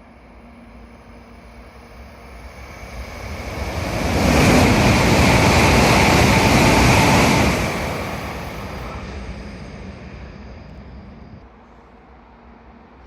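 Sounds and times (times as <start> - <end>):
train passing at high speed: 0.0 - 13.0.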